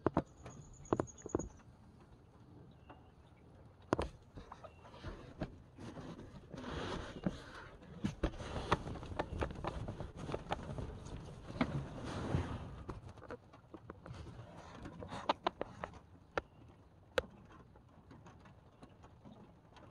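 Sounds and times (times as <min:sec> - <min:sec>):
light taps and scrapes: 0:03.9 - 0:19.9.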